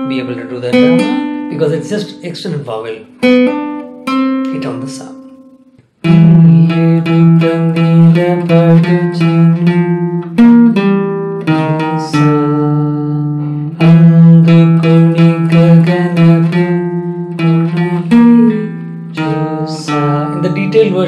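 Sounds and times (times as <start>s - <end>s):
classical guitar melody: 0.0s - 21.0s.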